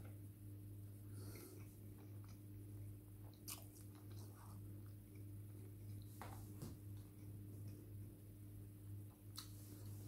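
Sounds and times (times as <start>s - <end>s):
soft chewing and mouth sounds: 0.0s - 10.0s
steady low hum: 0.0s - 10.0s.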